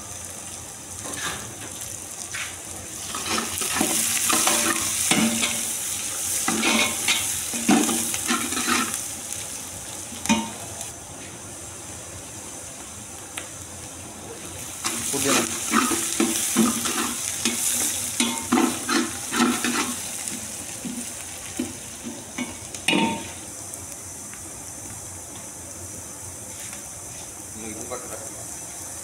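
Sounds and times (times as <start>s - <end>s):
onions sizzling in hot oil: 0.0s - 29.0s.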